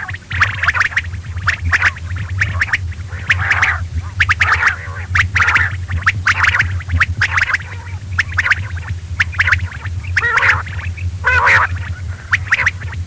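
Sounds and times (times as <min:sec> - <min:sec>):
quail calling: 0:00.0 - 0:13.0
steady low hum: 0:00.0 - 0:13.0.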